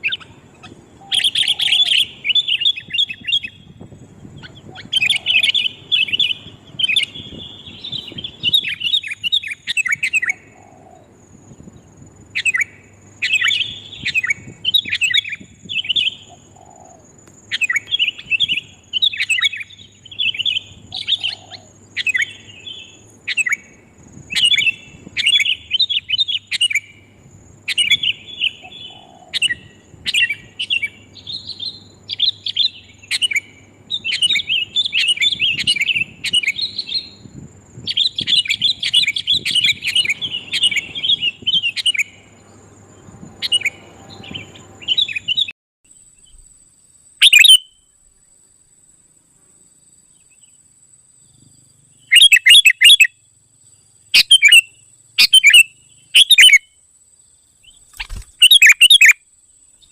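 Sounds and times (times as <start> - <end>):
birds chattering calls: 0.0 - 45.5, 51.2 - 56.7, 57.6 - 59.2.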